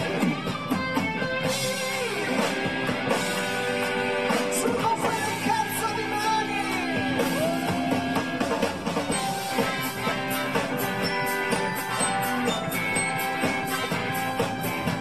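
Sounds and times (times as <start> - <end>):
bass guitar: 0.0 - 15.0
drum kit: 0.0 - 15.0
electric guitars: 0.0 - 15.0.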